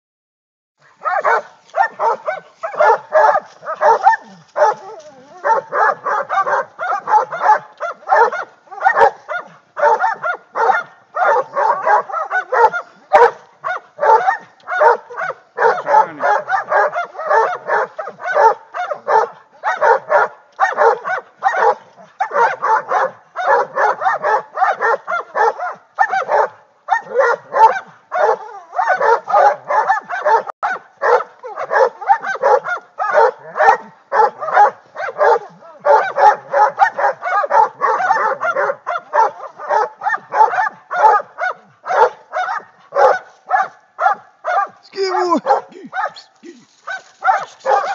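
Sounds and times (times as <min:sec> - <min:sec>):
dogs barking: 0:00.9 - 0:47.9.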